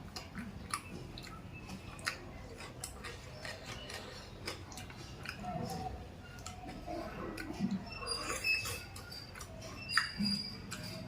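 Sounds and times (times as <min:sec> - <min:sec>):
person chewing and smacking: 0:00.0 - 0:11.0.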